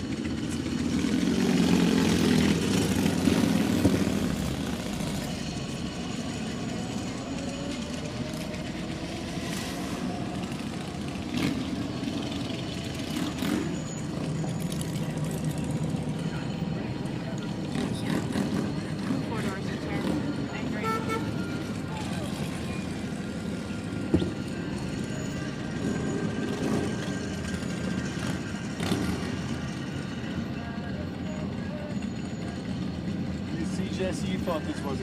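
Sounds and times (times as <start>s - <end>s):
car engines and exhausts running: 0.0s - 35.0s.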